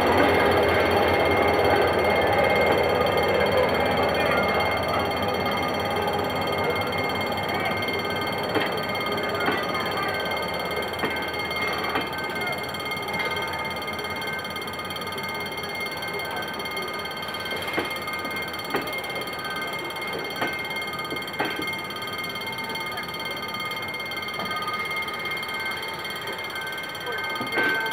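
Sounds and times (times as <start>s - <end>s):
level crossing alarm ringing: 0.0s - 27.9s
train wheels clacking: 0.0s - 27.9s.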